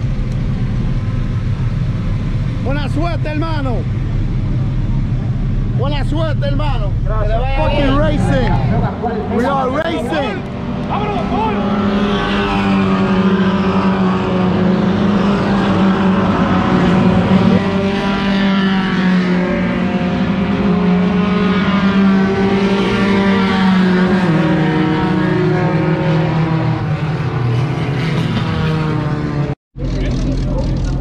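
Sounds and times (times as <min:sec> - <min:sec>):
race car engines at high revs: 0:00.0 - 0:31.0.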